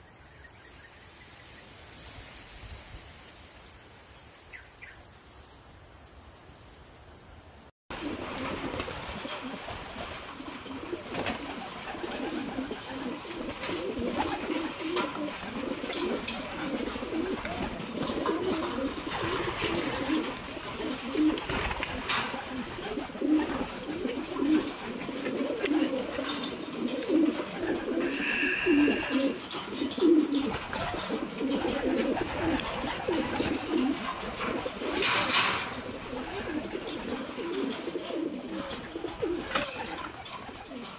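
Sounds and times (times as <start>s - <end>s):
pigeons cooing: 7.9s - 40.9s.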